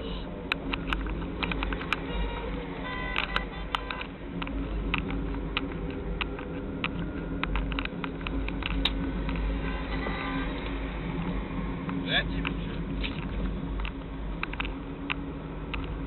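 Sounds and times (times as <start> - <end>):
car interior hum: 0.0 - 16.0.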